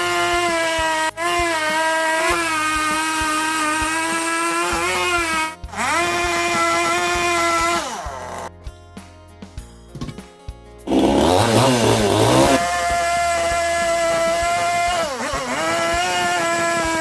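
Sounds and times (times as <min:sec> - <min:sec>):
power tool motor whine: 0:00.0 - 0:08.5, 0:10.9 - 0:17.0.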